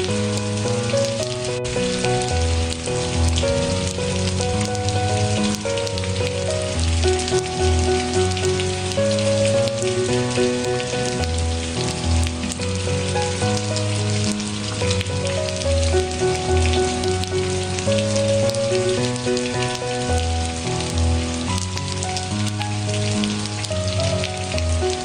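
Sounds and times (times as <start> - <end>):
calm instrumental music: 0.0 - 25.0
steady rain: 0.0 - 25.0.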